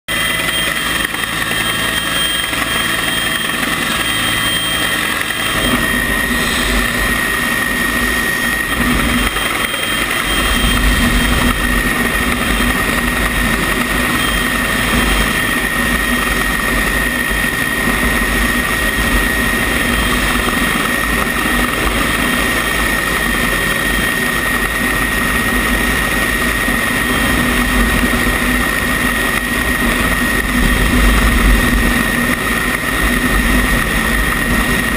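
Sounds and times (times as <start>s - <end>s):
helicopter rotor rumble and whine: 0.1s - 34.9s.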